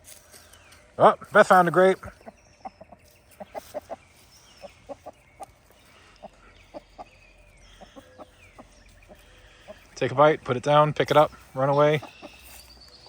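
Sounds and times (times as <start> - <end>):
chickens clucking softly: 1.0 - 12.7.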